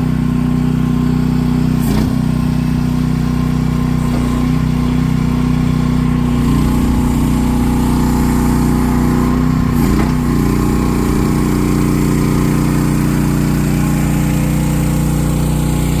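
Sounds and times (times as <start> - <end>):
loader engine running: 0.0 - 16.0.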